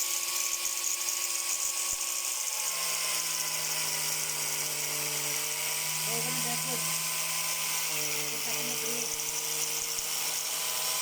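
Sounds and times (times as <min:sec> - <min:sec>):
angle grinder high whine: 0:00.0 - 0:11.0.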